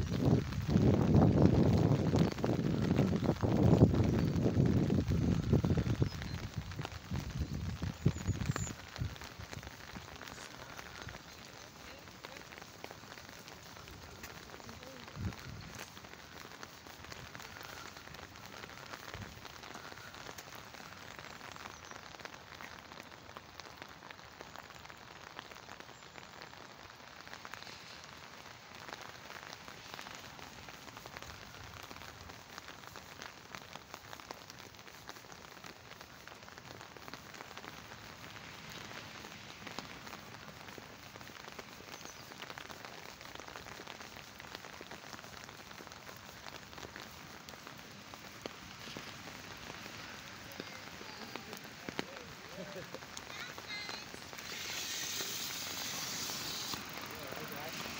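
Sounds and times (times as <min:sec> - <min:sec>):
rain on tarmac and puddles: 0:00.0 - 0:57.9.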